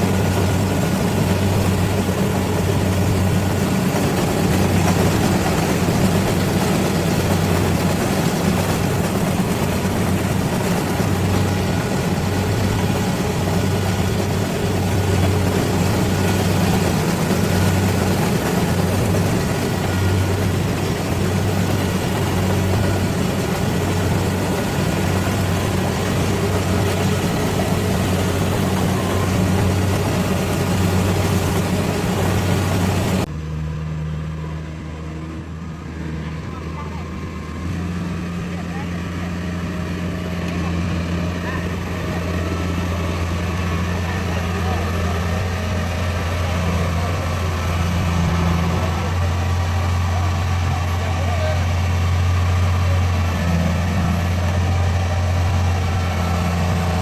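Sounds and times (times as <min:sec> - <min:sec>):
harvester engine running: 0:00.0 - 0:57.0.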